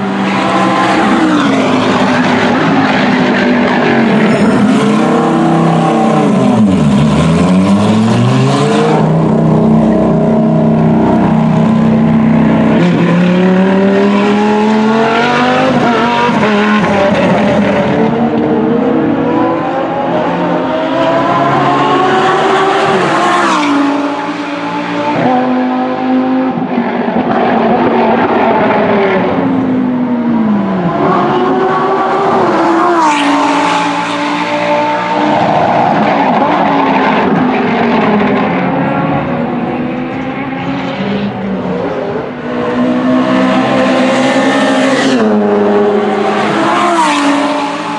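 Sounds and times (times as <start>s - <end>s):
race car engine revving: 0.0s - 47.9s.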